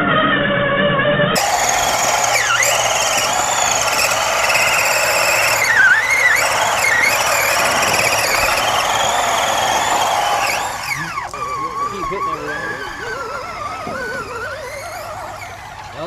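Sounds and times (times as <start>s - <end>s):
electric motor and gearbox whining: 1.4s - 16.0s.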